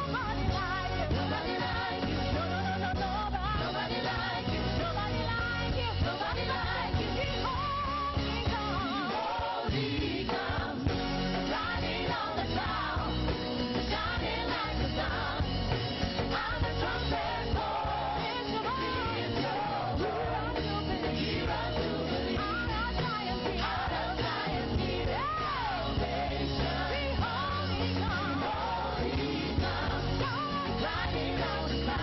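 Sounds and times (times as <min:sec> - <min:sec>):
band playing worship music: 0:00.0 - 0:32.0
people singing: 0:00.0 - 0:32.0.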